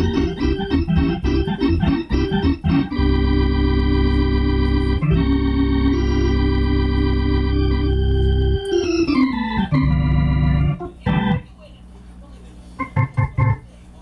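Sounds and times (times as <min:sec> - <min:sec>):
organ playing chords: 0:00.0 - 0:11.5, 0:12.8 - 0:13.6.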